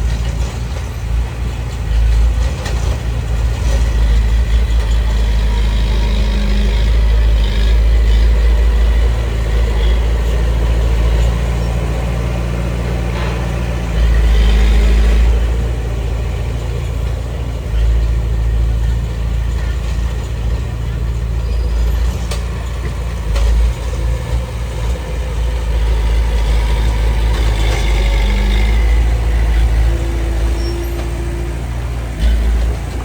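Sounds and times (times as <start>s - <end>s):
heavy diesel engine rumbling: 0.0s - 33.0s.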